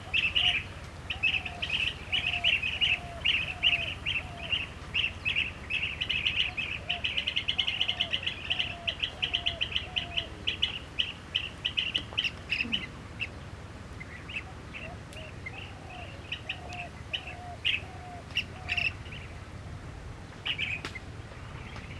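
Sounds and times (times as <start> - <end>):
bird low repeated call: 0.0 - 19.5
birds trilled chirps: 0.0 - 19.6.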